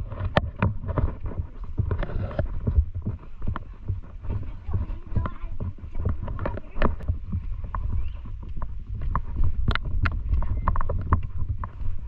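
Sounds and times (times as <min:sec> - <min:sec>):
footsteps on grass and wood: 0:00.0 - 0:12.0
wind rumbling on microphone: 0:00.0 - 0:12.0.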